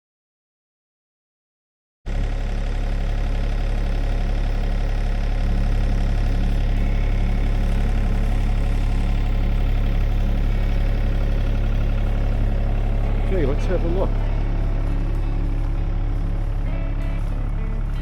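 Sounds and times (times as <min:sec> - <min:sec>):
excavator diesel engine running: 0:02.1 - 0:18.0.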